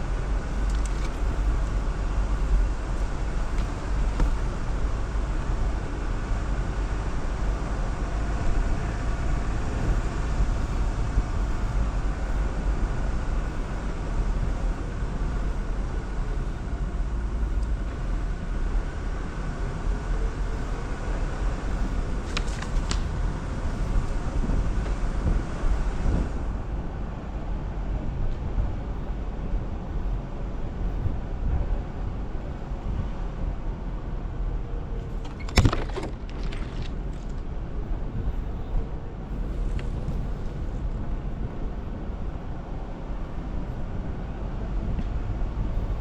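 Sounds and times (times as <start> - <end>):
vehicle engine and tyres rumbling: 0.0 - 46.0.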